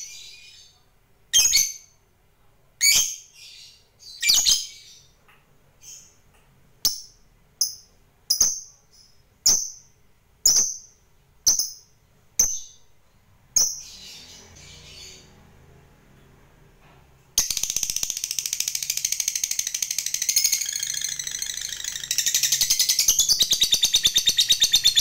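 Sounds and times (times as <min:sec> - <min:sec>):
lovebird chirping: 0:00.0 - 0:02.0, 0:02.8 - 0:05.2, 0:05.8 - 0:15.5, 0:17.4 - 0:25.0.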